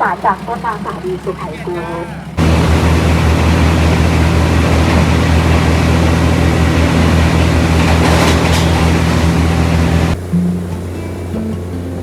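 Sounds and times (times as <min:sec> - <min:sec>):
diesel train drone: 0:00.0 - 0:12.0.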